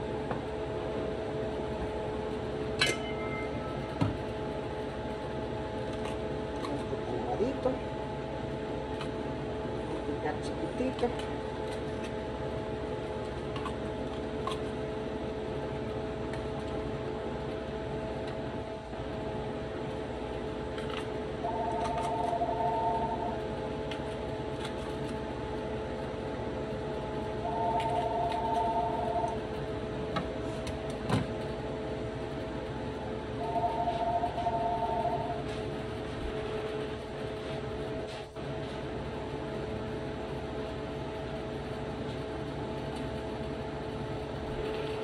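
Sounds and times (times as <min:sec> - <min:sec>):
extractor fan hum: 0:00.0 - 0:45.0.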